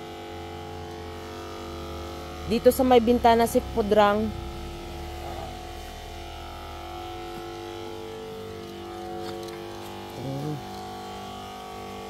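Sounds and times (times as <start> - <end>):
sprayer pump motor humming: 0.3 - 12.0.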